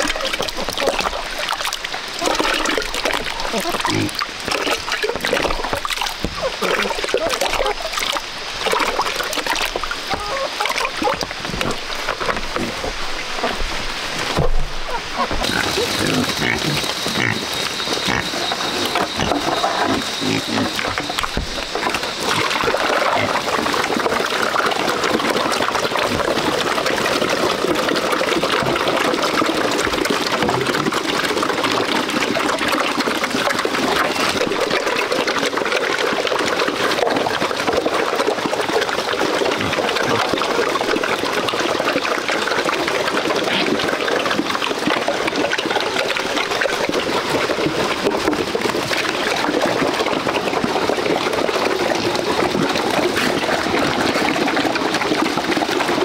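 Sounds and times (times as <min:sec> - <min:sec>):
pigs slurping and chomping: 0:00.0 - 0:56.0.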